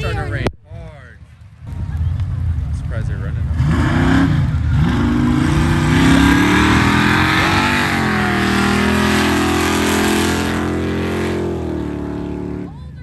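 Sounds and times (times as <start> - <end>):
race car engine accelerating: 1.9 - 12.8.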